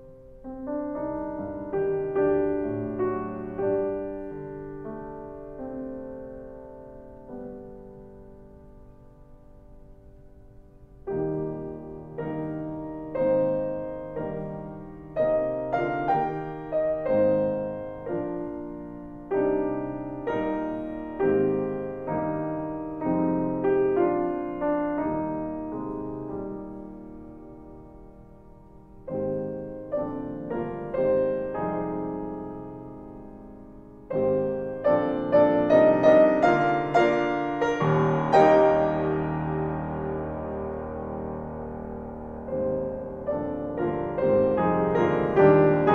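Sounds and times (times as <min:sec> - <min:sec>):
slow solo piano chords: 0:00.0 - 0:45.9.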